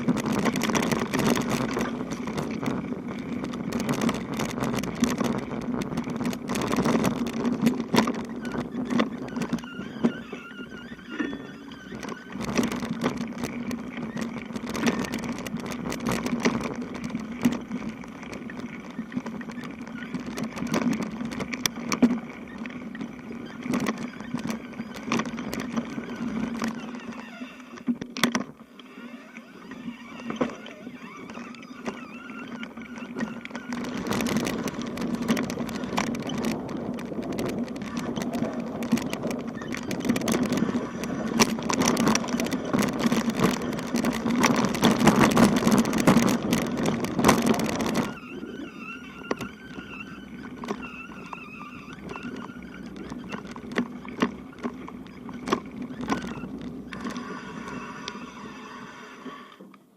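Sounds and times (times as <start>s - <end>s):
bicycle tyre road noise: 0.0s - 59.9s
bike rattling: 0.0s - 59.9s.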